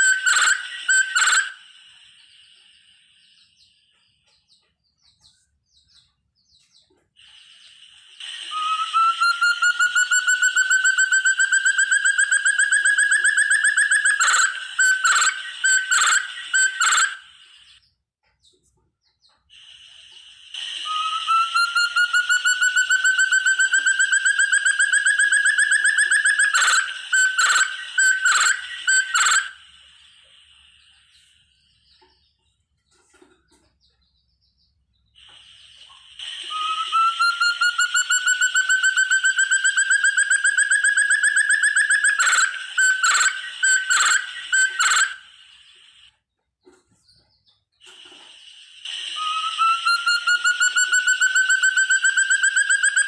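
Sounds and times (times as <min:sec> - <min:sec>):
partridge whistled trill: 0:00.0 - 0:04.0, 0:07.2 - 0:17.8, 0:19.3 - 0:32.2, 0:35.2 - 0:46.2, 0:47.8 - 0:53.0.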